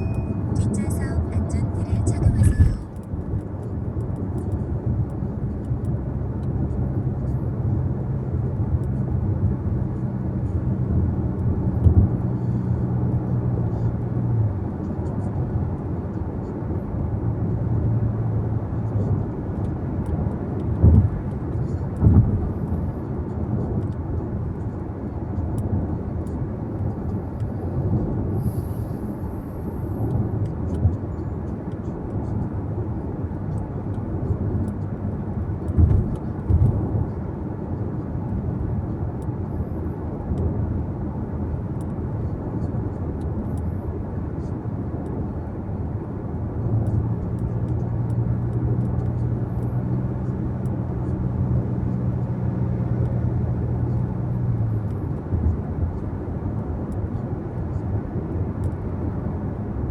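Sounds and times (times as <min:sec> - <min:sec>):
car engine hum: 0:00.0 - 0:59.9
car interior road noise: 0:00.0 - 0:59.9.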